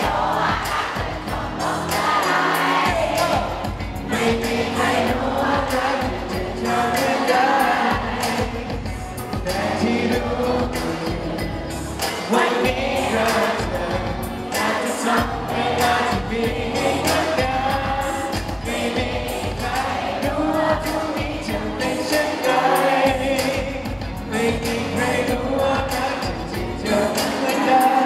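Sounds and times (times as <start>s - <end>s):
backing track: 0.0s - 28.0s
man singing into a microphone: 2.9s - 28.0s.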